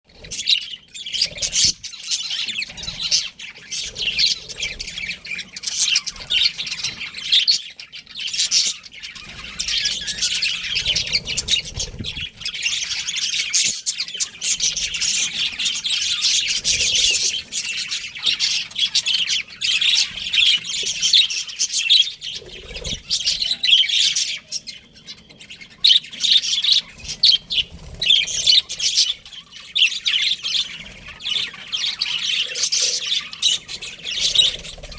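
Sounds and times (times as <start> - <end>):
budgies chirping and chattering: 0.1 - 34.9.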